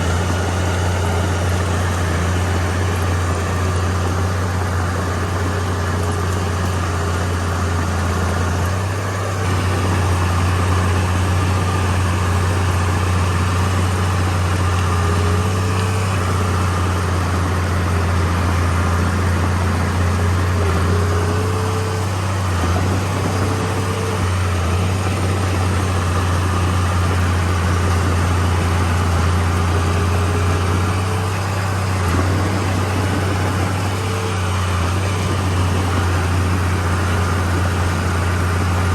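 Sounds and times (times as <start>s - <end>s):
bulldozer diesel engine droning: 0.0s - 38.9s.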